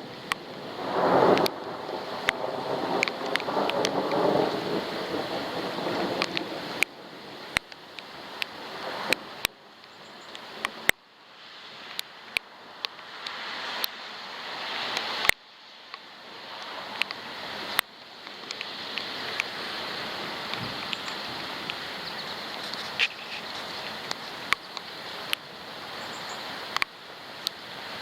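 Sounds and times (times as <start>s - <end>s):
raindrops ticking on camera housing: 0.0s - 11.1s, 14.9s - 27.7s
rain hiss: 0.0s - 28.0s.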